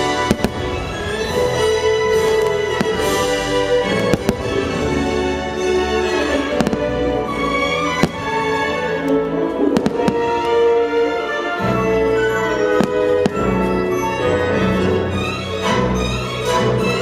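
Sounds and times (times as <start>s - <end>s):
fireworks bursting: 0.0s - 11.0s, 11.8s - 14.4s
orchestral music with strings: 0.0s - 17.0s.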